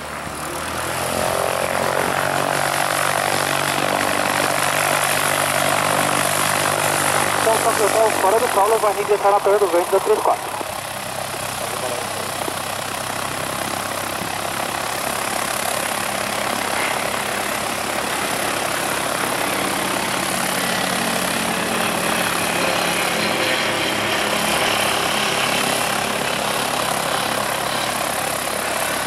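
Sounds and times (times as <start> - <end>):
light aircraft engine and propeller: 0.0 - 29.0.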